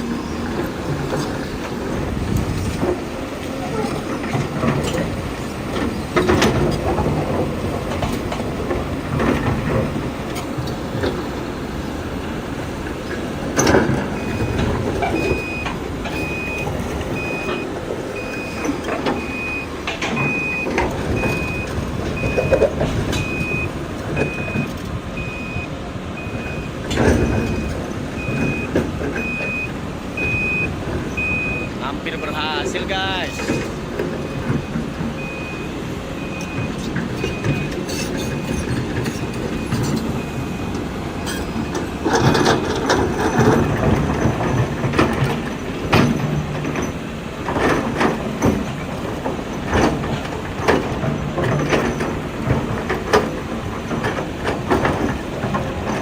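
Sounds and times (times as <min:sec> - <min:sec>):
noisy background: 0:00.0 - 0:56.0.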